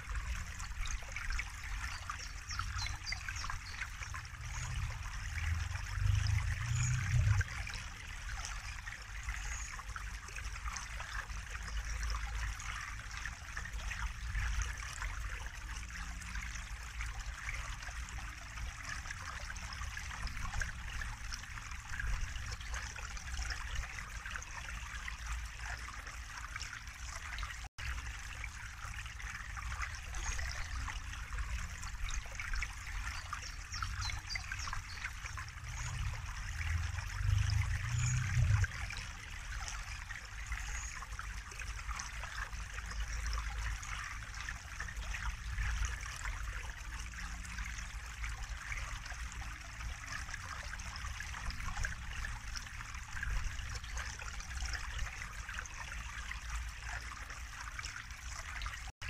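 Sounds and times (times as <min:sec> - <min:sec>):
stream trickling and splashing: 0:00.0 - 0:59.0.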